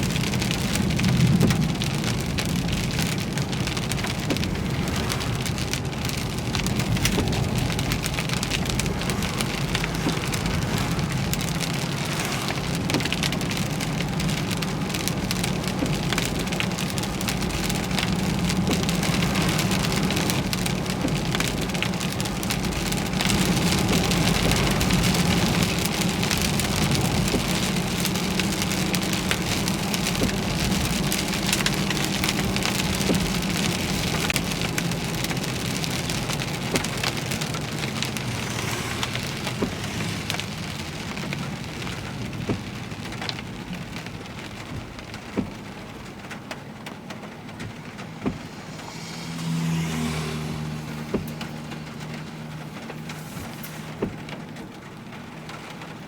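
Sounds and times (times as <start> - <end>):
car hum: 0.0 - 56.0
heavy rain on vehicle: 0.0 - 56.0.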